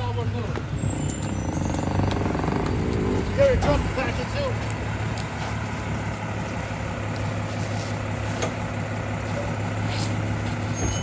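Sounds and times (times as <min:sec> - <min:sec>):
garbage truck engine running: 0:00.0 - 0:11.0.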